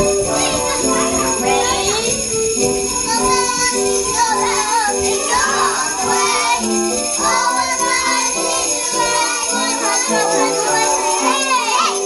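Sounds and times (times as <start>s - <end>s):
music with melody: 0.0s - 12.0s
sleigh bells jingling: 0.0s - 12.0s.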